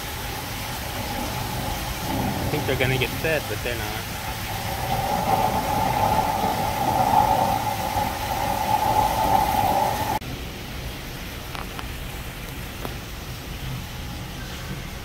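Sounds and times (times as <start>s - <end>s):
steady rushing water: 0.0s - 15.0s.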